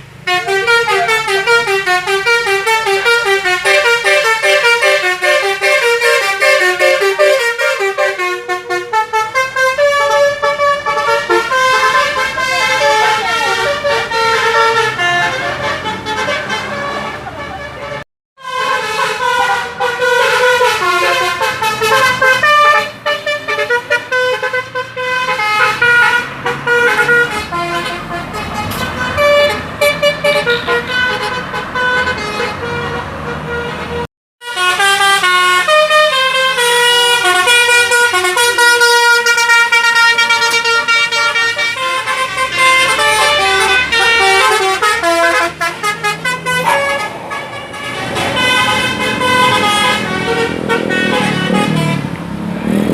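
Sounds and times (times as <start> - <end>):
bus musical horn melody: 0.0 - 52.9.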